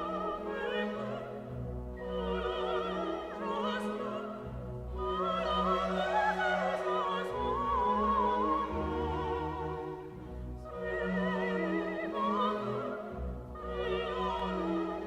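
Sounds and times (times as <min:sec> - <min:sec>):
orchestral strings: 0:00.0 - 0:15.0.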